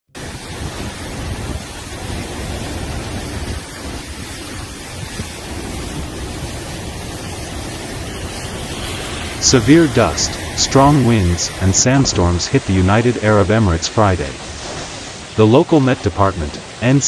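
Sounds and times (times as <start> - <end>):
strong wind on microphone: 0.1 - 15.4.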